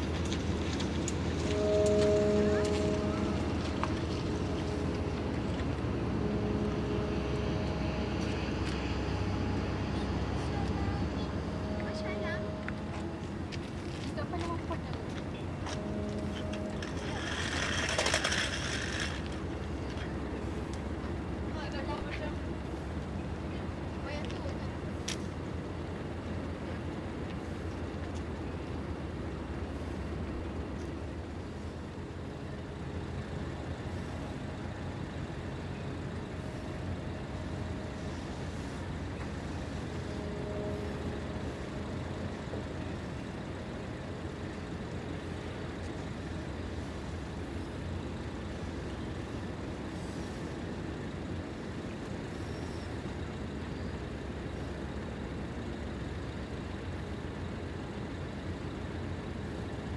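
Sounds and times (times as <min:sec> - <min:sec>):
faint hum: 0:00.0 - 0:59.9
heavy engines rumbling: 0:00.0 - 0:59.9.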